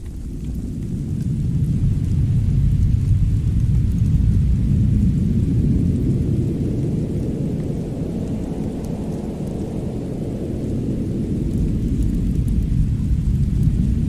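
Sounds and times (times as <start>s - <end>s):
deep low rumble: 0.0s - 14.0s.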